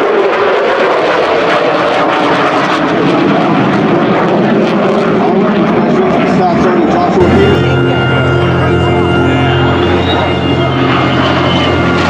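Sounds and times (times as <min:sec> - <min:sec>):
fighter jet flying overhead: 0:00.0 - 0:12.0.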